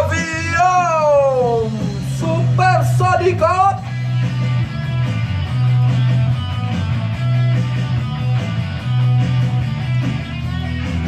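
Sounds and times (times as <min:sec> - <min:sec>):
instrumental rock music: 0:00.0 - 0:11.0.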